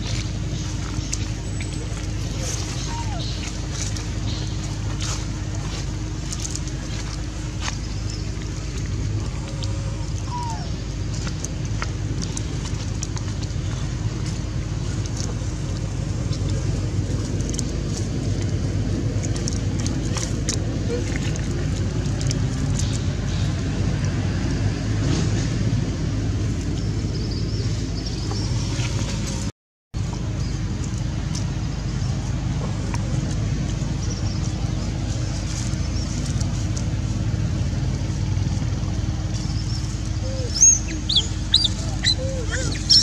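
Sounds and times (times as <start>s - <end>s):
low outdoor rumble: 0.0s - 43.0s.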